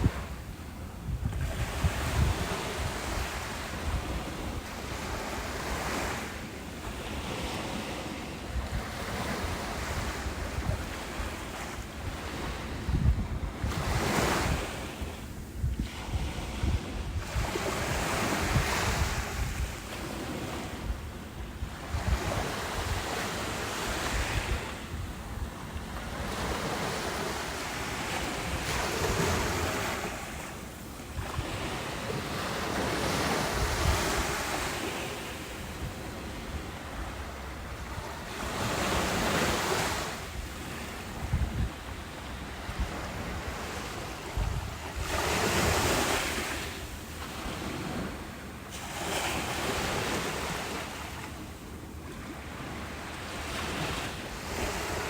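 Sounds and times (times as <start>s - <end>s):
wind buffeting microphone: 0.0s - 6.2s, 7.0s - 48.3s
ocean waves breaking: 0.0s - 55.0s.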